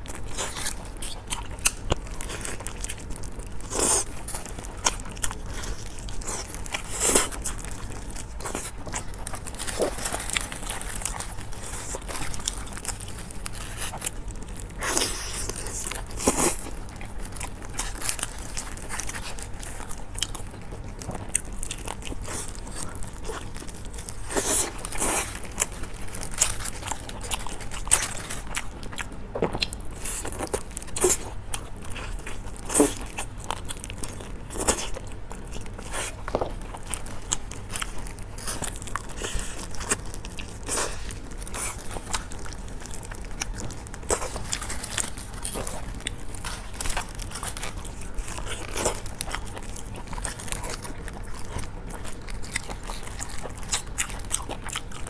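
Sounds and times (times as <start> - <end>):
close chewing with wet crackles: 0.0 - 55.0.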